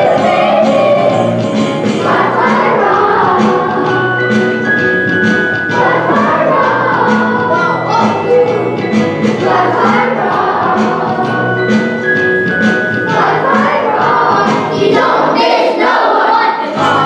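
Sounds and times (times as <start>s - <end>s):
children's choir singing: 0.0s - 17.0s
instrumental accompaniment with beat: 0.0s - 17.0s.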